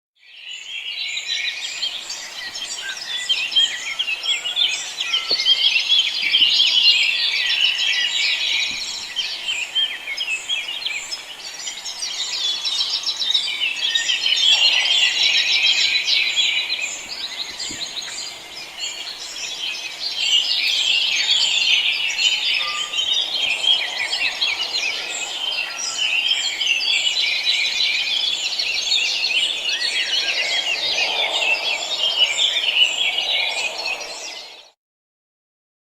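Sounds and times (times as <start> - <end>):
many small birds singing: 0.2 - 34.8.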